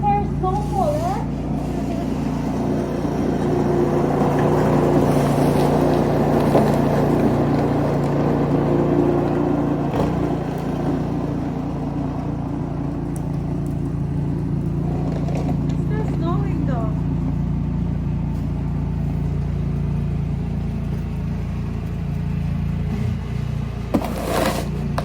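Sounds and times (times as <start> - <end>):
small gasoline engine running: 0.0 - 25.0.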